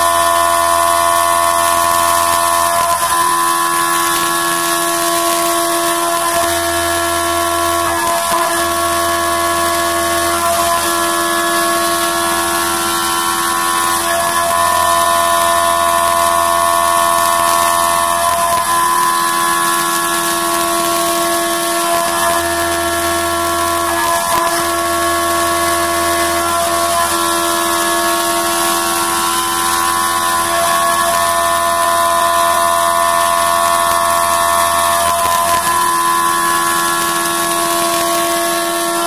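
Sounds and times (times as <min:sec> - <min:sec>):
coolant spraying: 0:00.0 - 0:39.0
milling machine high-pitched whine: 0:00.0 - 0:39.0.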